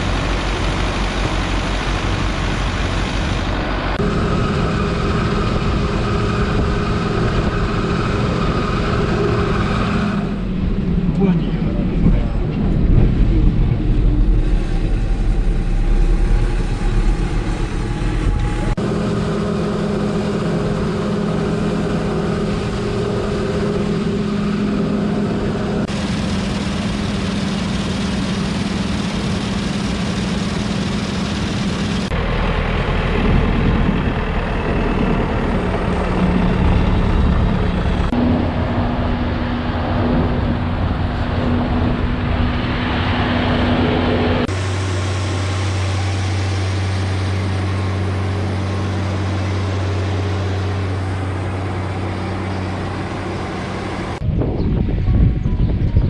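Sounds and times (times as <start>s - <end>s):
farm machinery engine droning: 0.0s - 56.0s.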